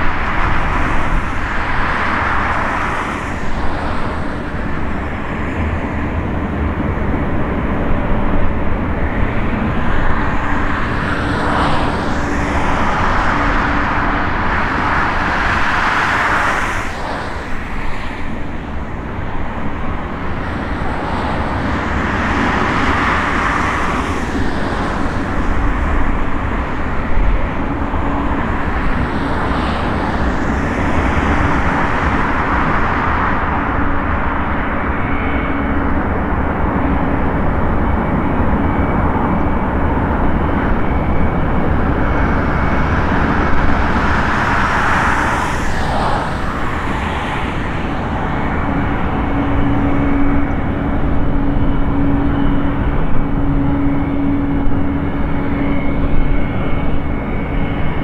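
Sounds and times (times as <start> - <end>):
jet engine at taxi power: 0.0 - 58.0.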